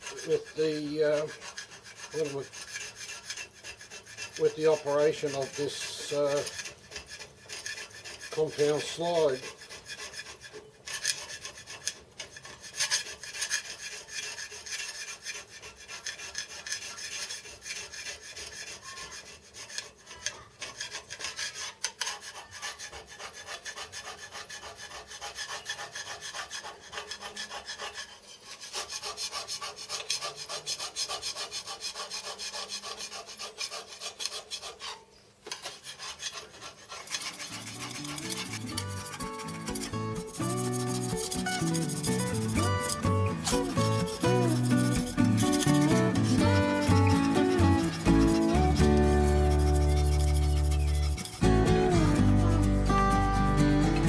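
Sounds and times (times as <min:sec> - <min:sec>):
metal plate rasping on sandpaper: 0:00.0 - 0:54.0.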